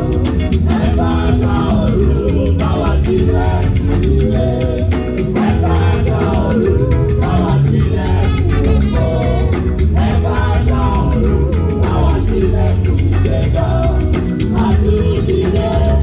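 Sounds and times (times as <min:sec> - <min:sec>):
shaker rhythm: 0:00.0 - 0:16.0
steady drum beat: 0:00.0 - 0:16.0
voices singing: 0:00.0 - 0:16.0.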